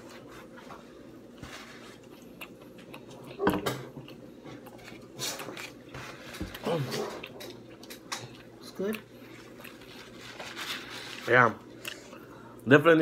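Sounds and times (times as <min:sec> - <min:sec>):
person chewing: 0:00.4 - 0:12.6.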